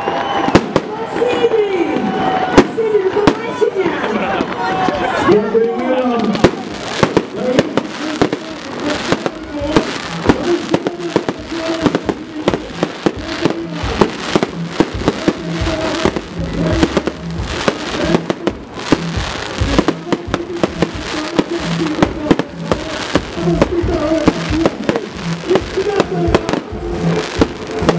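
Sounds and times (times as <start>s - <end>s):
fireworks bangs and crackles: 0.0s - 27.9s
music playing: 0.0s - 27.9s.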